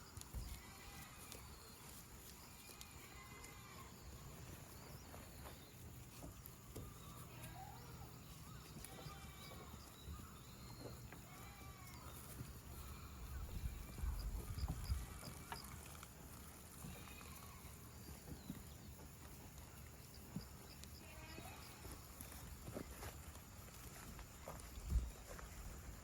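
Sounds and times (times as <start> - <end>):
faint short chirping calls: 0.0 - 22.6.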